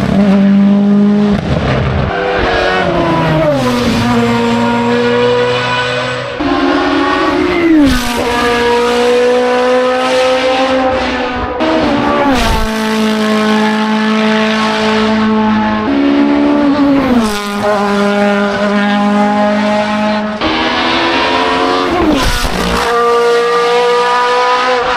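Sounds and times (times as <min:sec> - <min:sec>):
race car engines at full throttle: 0:00.0 - 0:24.9.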